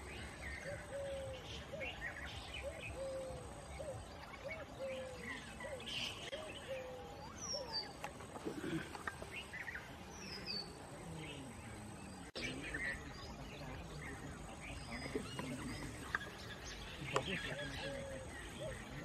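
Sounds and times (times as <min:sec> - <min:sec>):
birds calling and chirping: 0:00.0 - 0:19.0
faint voices: 0:00.0 - 0:19.0.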